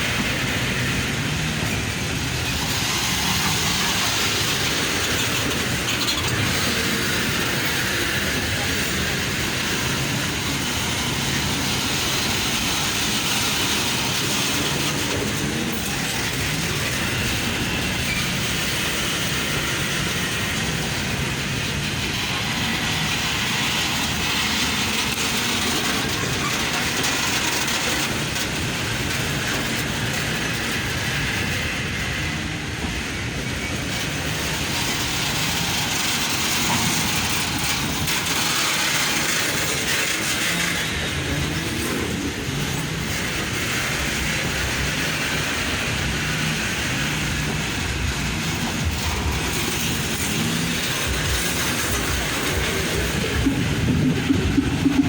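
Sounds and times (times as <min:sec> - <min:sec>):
freight train rumbling on rails: 0:00.0 - 0:55.0.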